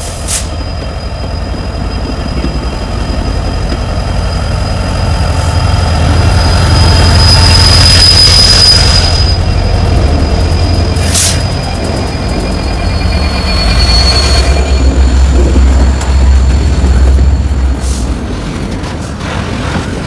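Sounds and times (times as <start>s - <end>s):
train rumbling past: 0.0s - 20.0s
high-pitched wheel squeal: 0.4s - 16.8s.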